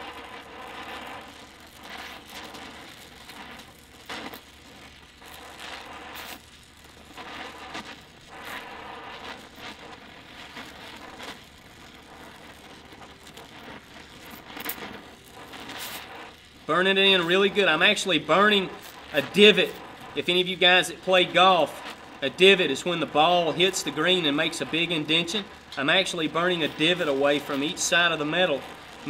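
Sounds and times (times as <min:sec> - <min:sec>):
sharp crackles: 0:00.0 - 0:29.0
welding torch flame hissing: 0:00.0 - 0:29.0.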